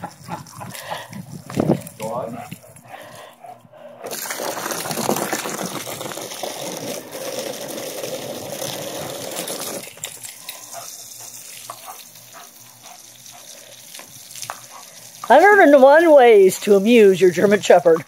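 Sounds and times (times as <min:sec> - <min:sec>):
garden hose spraying water: 0:00.0 - 0:18.0.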